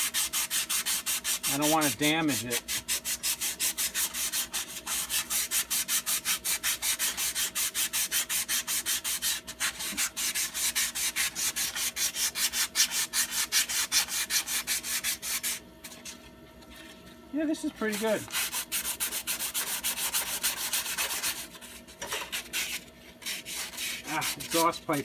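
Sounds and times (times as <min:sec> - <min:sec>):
sanding metal pipe by hand: 0:00.0 - 0:15.6, 0:17.8 - 0:25.0.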